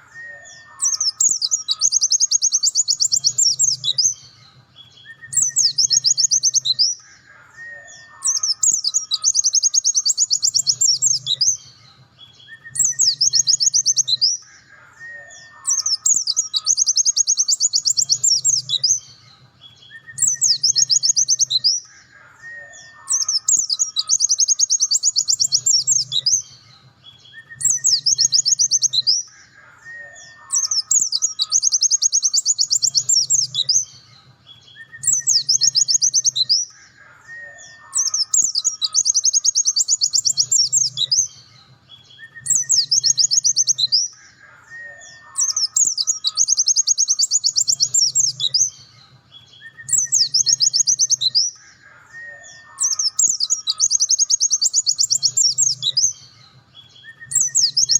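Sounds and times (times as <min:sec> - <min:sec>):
bird trilling song: 0:00.0 - 0:57.9.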